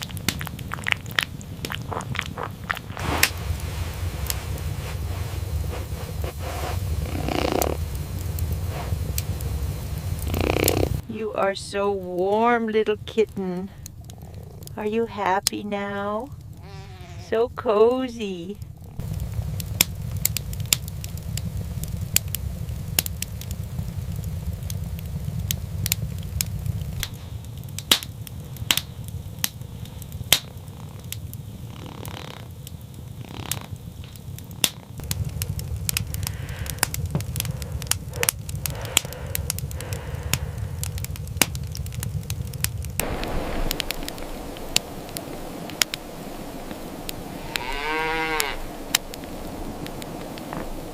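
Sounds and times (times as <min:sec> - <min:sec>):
low steady rumble: 0:00.0 - 0:31.8, 0:32.5 - 0:50.9
wood fire crackling and popping: 0:00.0 - 0:50.9.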